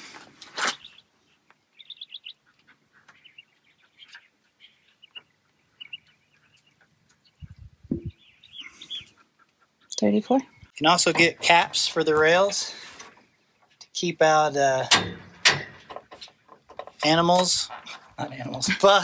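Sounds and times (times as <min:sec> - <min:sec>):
birds chirping: 0:00.7 - 0:19.0.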